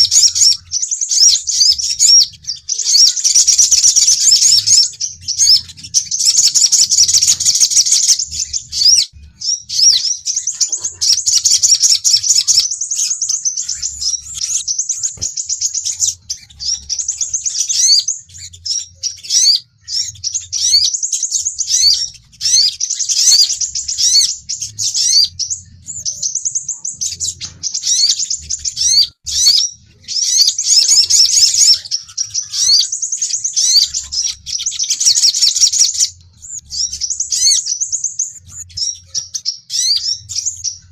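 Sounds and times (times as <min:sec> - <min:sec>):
sunbirds chirping and trilling: 0:00.0 - 0:40.9.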